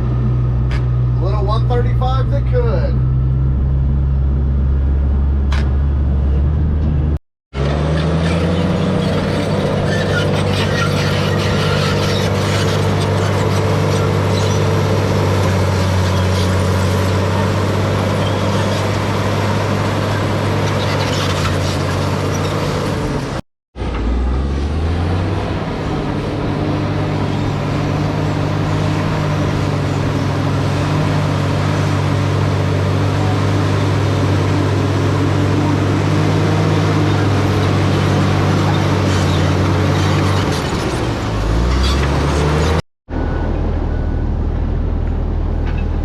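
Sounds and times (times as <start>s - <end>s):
diesel engine running under load: 0.0s - 46.0s.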